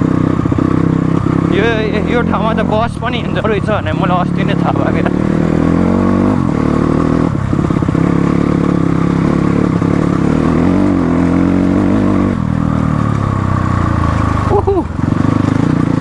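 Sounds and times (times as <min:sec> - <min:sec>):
motorcycle engine under throttle: 0:00.0 - 0:16.0.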